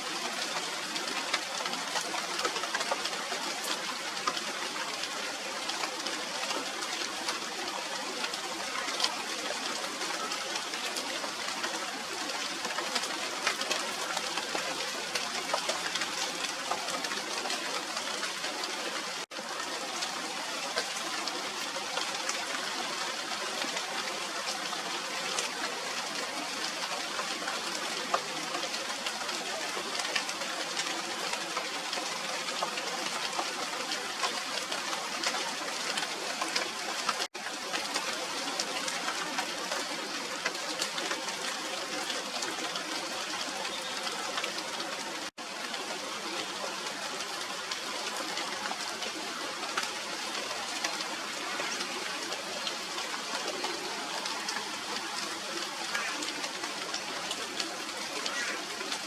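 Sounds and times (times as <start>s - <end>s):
rain hissing on leaves: 0.0s - 59.0s
raindrops ticking: 0.0s - 59.0s.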